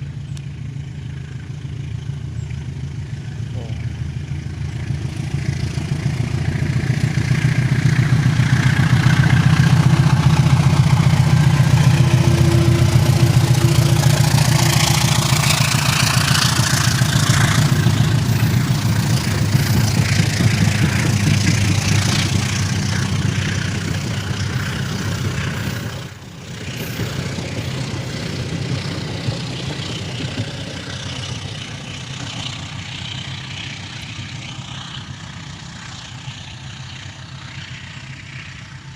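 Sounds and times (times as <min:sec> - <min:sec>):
locomotive engine throbbing: 0:00.0 - 0:38.9.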